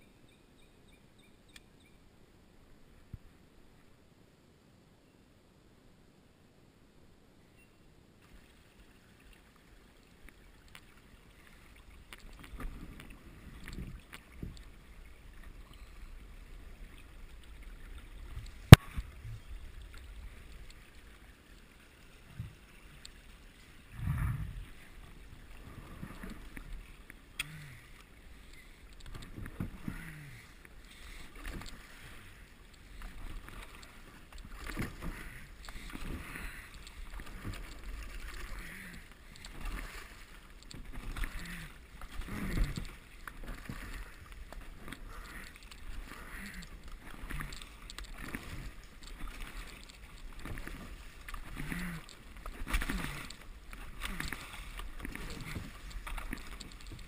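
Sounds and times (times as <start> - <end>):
paddle splashing water: 8.2 - 57.0.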